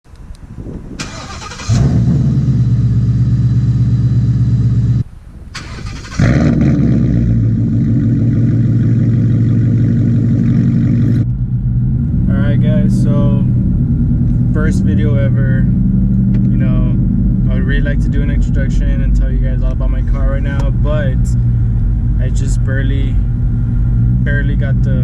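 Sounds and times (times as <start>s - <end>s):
car engine idling: 0.2s - 25.0s
car engine cranking: 0.9s - 3.4s, 4.7s - 25.0s.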